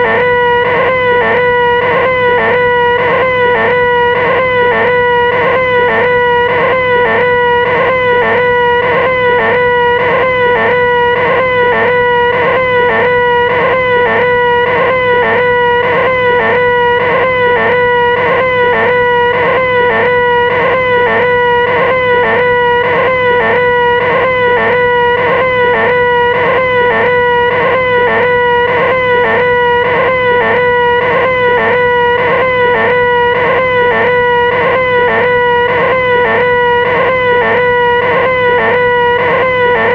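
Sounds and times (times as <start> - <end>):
person making nasal whining drone: 0.0 - 39.9.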